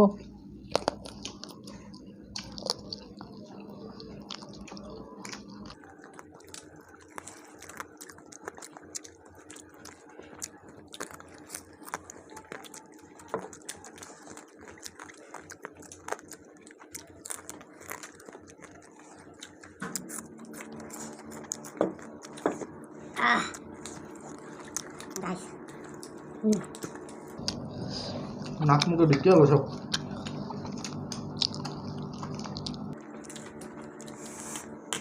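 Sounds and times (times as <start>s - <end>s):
faint steady hum: 0.0s - 35.0s
people chewing food: 0.0s - 35.0s.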